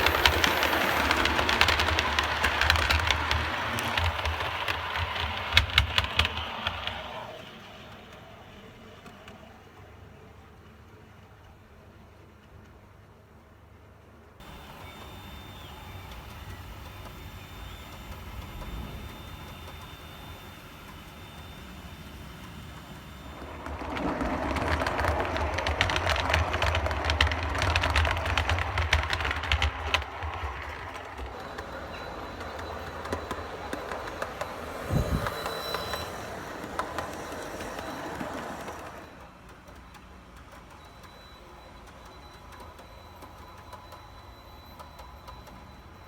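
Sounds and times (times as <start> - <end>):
model train running on track: 0.0 - 46.0
wheels clicking over rail joints: 0.0 - 46.0.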